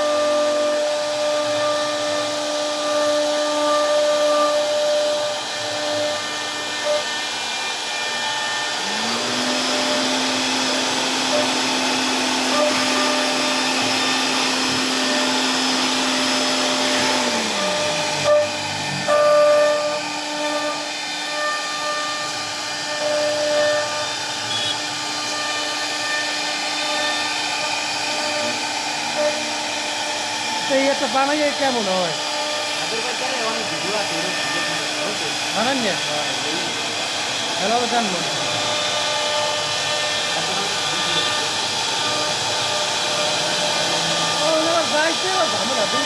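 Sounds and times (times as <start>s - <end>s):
second motor spinning: 0.0s - 46.0s
wood router whine: 0.0s - 46.0s.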